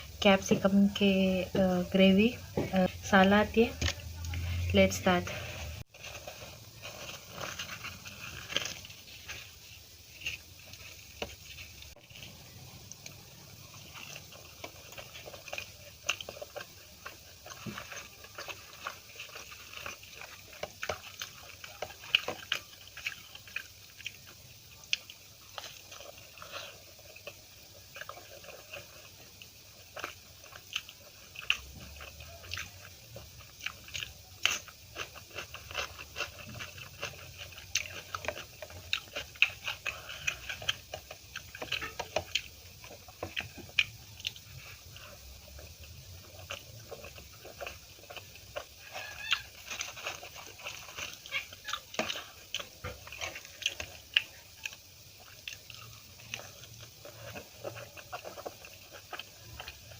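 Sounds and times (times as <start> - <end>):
person chewing food: 0.0 - 59.9
crisp crunches: 5.4 - 45.6, 46.2 - 59.9.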